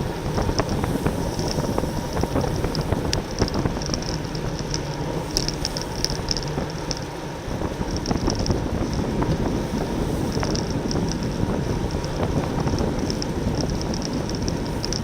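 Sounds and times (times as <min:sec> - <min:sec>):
tyre and drivetrain noise: 0:00.0 - 0:15.0
wind rushing over microphone: 0:00.0 - 0:15.0.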